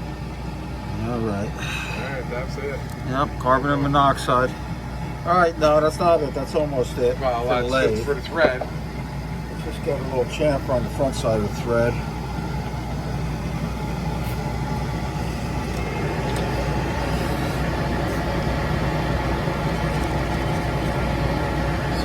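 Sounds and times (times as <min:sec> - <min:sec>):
engine lathe humming: 0:00.0 - 0:22.0.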